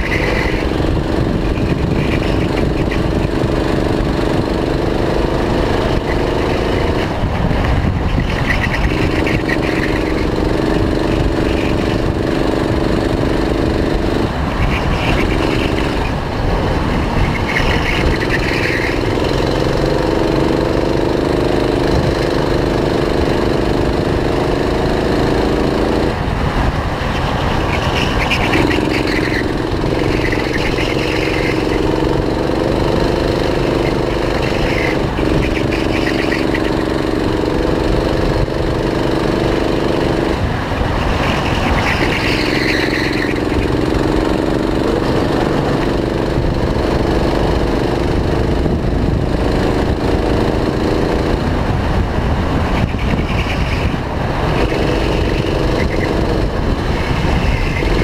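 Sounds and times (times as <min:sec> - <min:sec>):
go-kart engine running hard: 0:00.0 - 0:58.0
wind rushing over microphone: 0:00.0 - 0:58.0.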